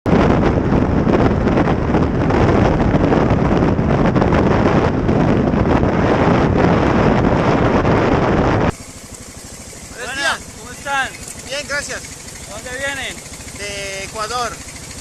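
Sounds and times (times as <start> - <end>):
wind rush on microphone: 0.0 - 15.0
motorcycle running: 0.1 - 15.0.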